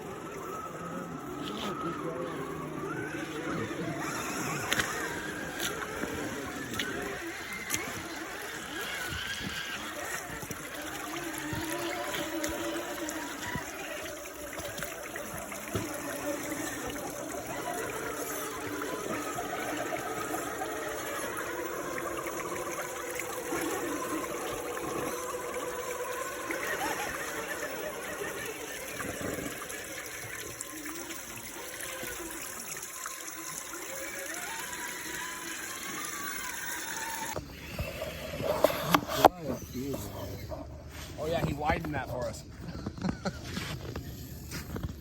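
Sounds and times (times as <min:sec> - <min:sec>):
running trickling water: 0:00.0 - 0:40.3
faint wavering whine: 0:00.0 - 0:45.0.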